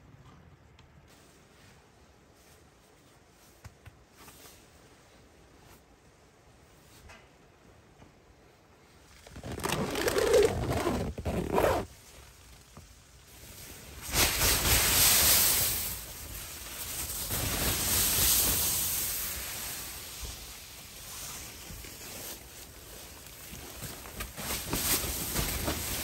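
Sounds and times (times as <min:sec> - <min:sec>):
tent fabric rustling: 0:01.1 - 0:07.1, 0:08.4 - 0:26.0.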